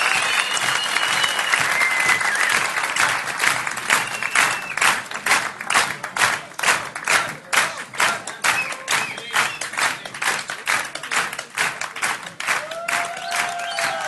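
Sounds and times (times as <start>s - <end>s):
audience applauding: 0.0s - 14.0s
rhythmic clapping in unison: 0.0s - 14.0s.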